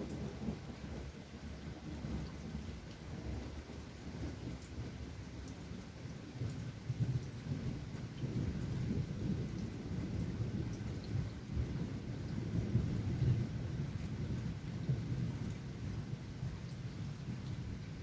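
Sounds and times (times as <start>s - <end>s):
light rain: 0.0s - 18.0s.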